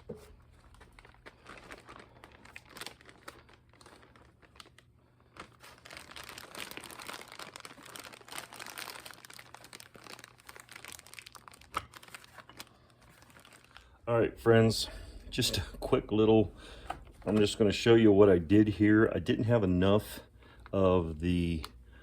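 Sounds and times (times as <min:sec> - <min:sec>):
plastic bag crinkling and rustling: 0:00.0 - 0:21.8.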